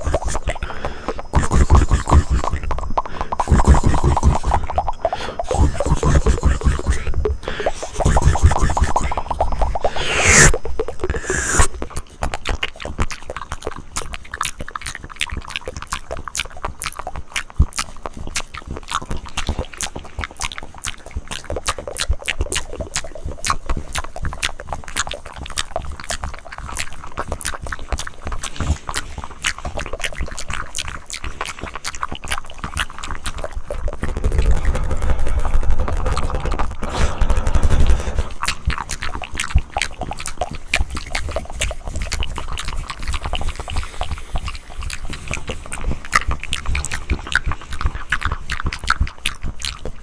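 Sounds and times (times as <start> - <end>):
wet tongue and lip clicks: 0.0 - 50.0.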